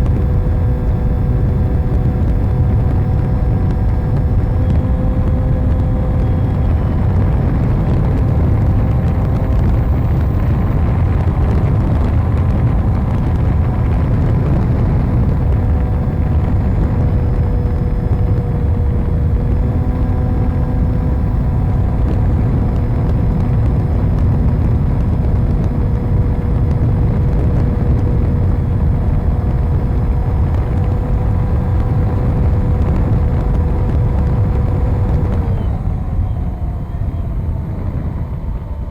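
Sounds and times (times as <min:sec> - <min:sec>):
model plane motor hum: 0:00.0 - 0:38.4
wind buffeting microphone: 0:00.0 - 0:38.9.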